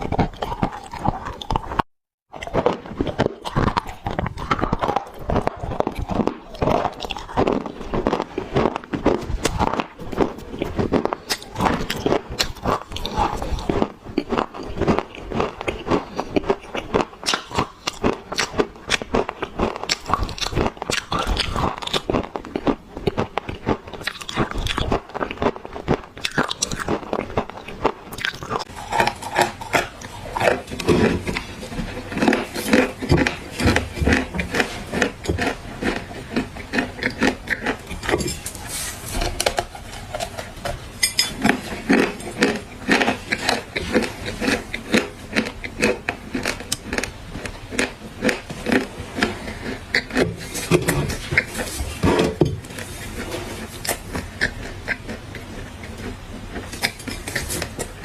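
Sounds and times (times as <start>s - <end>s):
clay being chewed: 0.0s - 58.0s.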